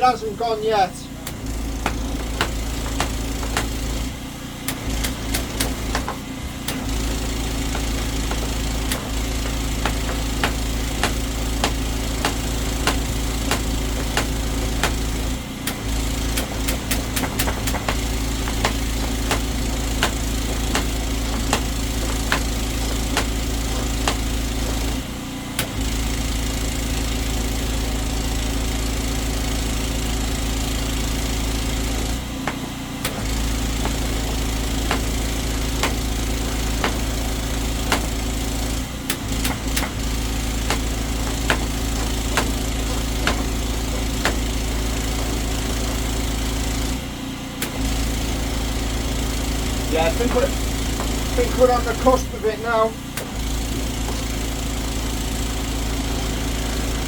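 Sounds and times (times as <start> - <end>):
drain-clearing machine running: 0.0 - 57.0.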